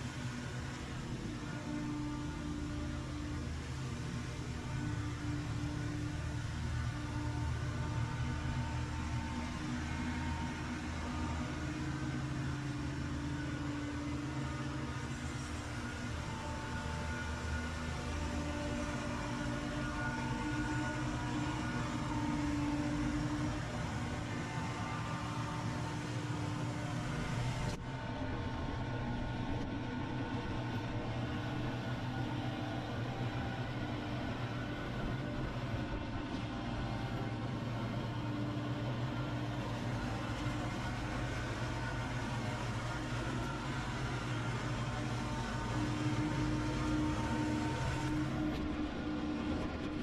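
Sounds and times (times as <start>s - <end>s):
power equipment engine droning: 0.0s - 50.0s.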